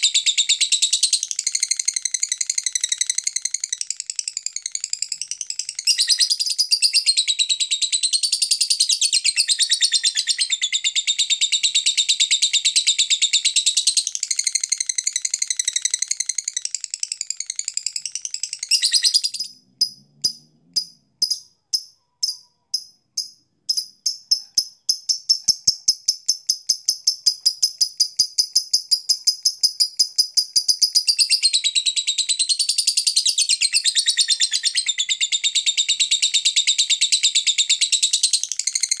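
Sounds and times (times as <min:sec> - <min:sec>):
lovebird chattering and chirping: 0:00.0 - 0:39.0.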